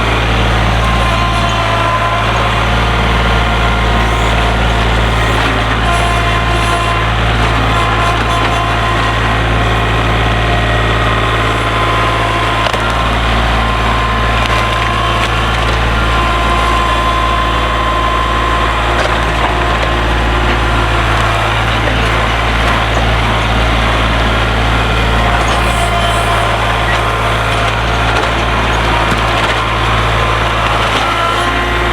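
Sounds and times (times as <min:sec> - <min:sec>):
tractor engine running: 0:00.0 - 0:31.9
wood cracking and splintering: 0:00.0 - 0:31.9.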